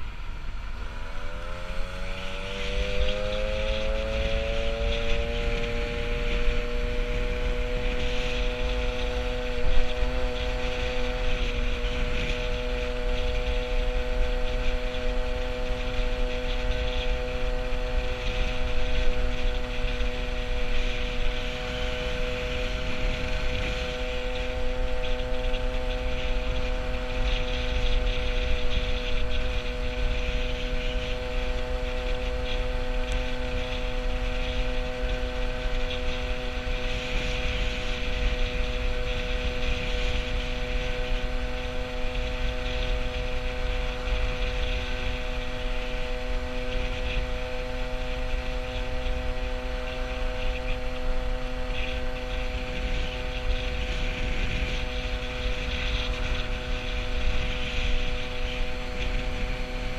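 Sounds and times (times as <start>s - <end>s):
moped engine running steadily: 0.0s - 59.9s
wind rumble on microphone: 0.0s - 59.9s.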